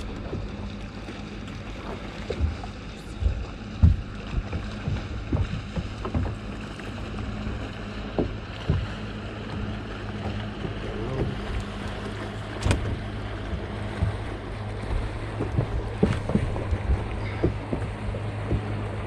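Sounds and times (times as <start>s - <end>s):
boat motor humming: 0.0s - 19.0s
knocks and thumps on boat: 0.0s - 19.0s
wind buffeting microphone: 0.0s - 19.0s.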